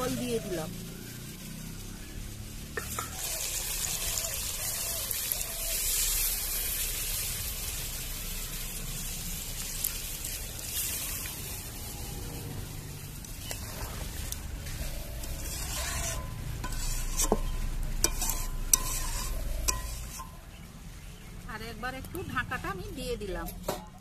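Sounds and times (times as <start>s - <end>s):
chicken sizzling and bubbling: 0.0s - 21.5s.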